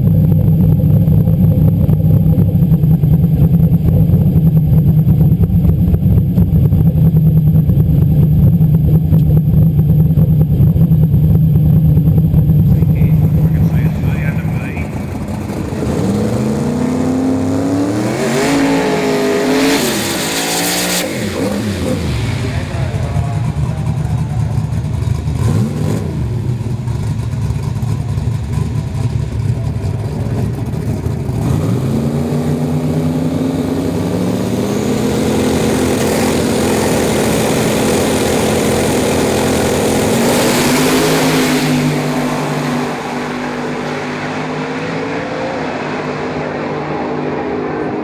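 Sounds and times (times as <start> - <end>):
drag car engine revving: 0.0 - 48.0.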